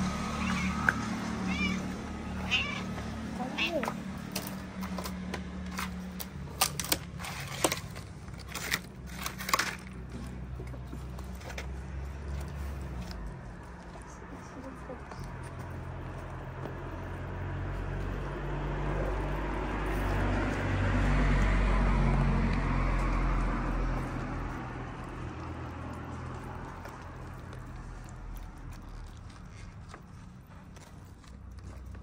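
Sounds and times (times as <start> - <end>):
vehicle passing by: 0.0 - 32.0.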